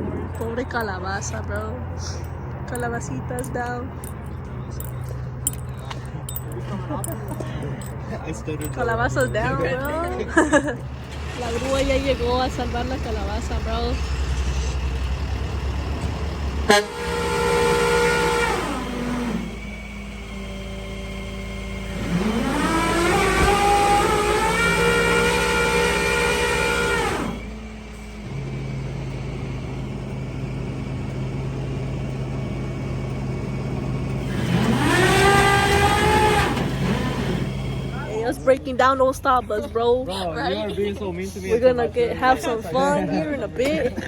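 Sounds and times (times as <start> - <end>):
tow truck engine revving: 0.0 - 44.0.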